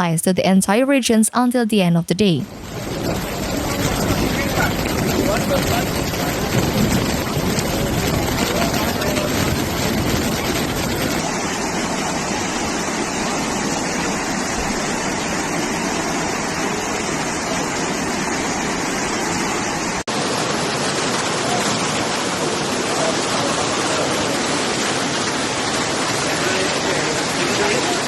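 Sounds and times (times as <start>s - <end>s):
floodwater rushing: 2.5s - 28.0s.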